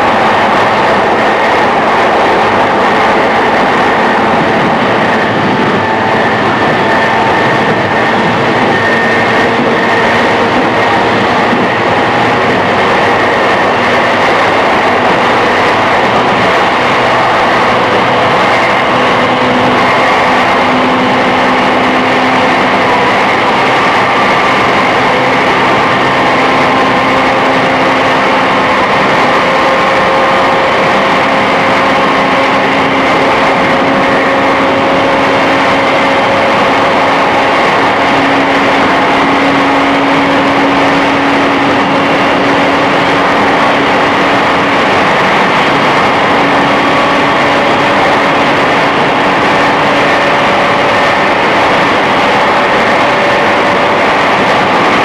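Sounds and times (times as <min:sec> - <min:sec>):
train motor whine rising: 0:00.0 - 0:55.0
train running rumble: 0:00.0 - 0:55.0.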